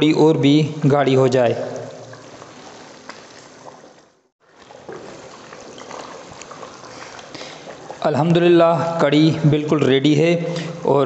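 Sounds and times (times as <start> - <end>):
liquid sloshing in a pot: 0.8 - 10.9.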